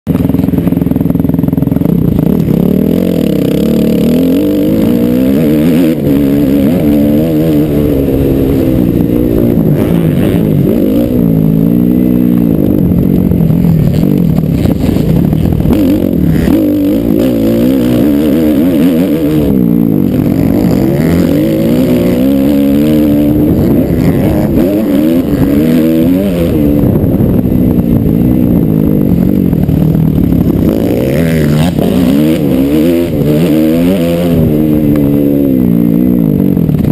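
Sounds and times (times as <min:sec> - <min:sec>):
motocross bike engine revving: 0:00.1 - 0:36.9.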